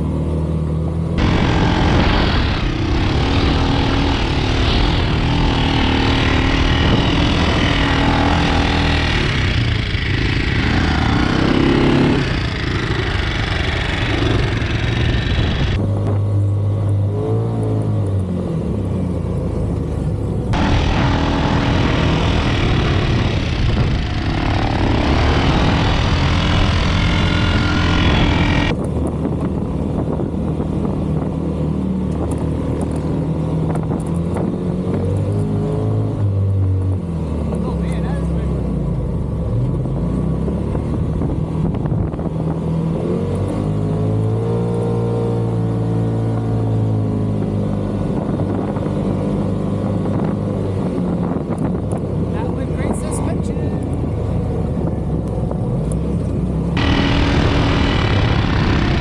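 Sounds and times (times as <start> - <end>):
off-road vehicle engine revving: 0.8 - 59.0.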